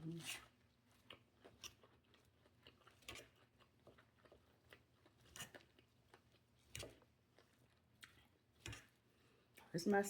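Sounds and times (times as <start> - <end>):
chewing salad: 0.0 - 9.8.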